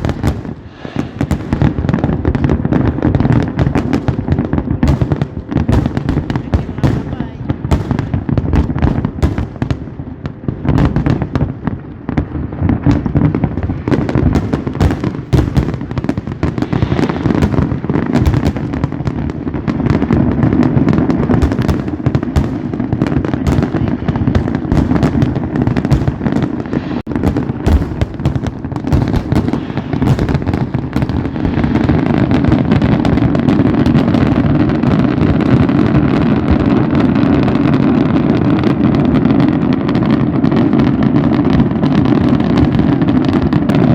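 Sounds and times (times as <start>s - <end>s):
fireworks bursting: 0.0s - 43.9s.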